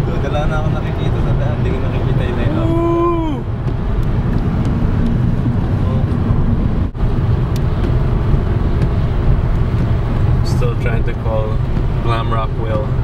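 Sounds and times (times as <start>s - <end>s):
car cabin engine and tyre rumble: 0.0s - 13.0s.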